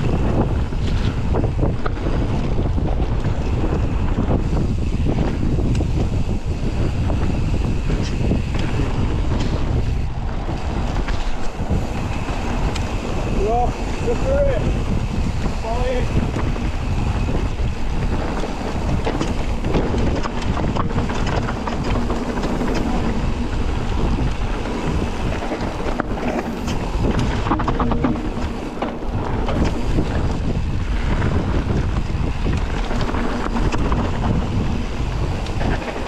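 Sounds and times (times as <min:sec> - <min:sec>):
bike rattles and clicks: 0:00.0 - 0:36.0
wind noise on microphone: 0:00.0 - 0:36.0.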